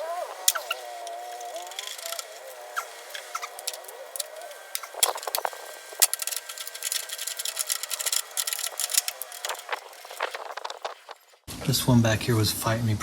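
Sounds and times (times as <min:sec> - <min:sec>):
hand tools clicking on metal: 0:00.0 - 0:11.4.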